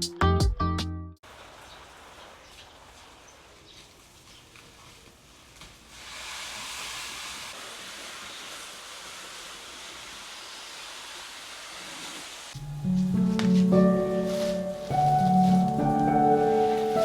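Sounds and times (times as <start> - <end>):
steady rushing hiss: 1.2 - 17.0.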